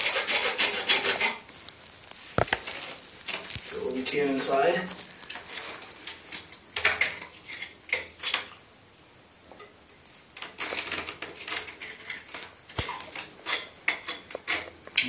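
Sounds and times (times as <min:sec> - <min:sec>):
hand tool scraping inside copper pipe: 0:00.0 - 0:01.7, 0:02.3 - 0:08.4, 0:10.4 - 0:15.0.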